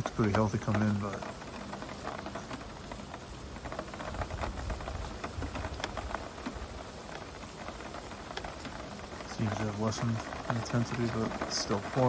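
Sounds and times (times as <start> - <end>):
heavy rain pouring: 0.0 - 12.0
raindrops ticking close by: 0.0 - 12.0.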